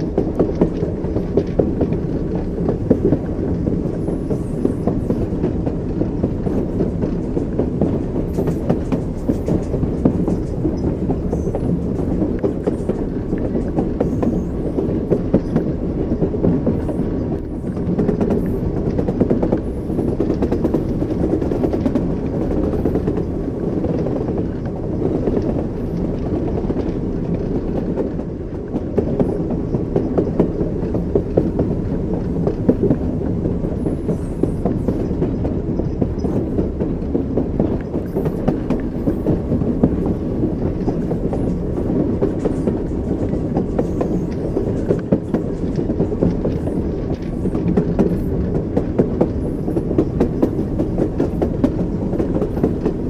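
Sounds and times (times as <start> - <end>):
train wheels knocking on rail joints: 0.0 - 53.0.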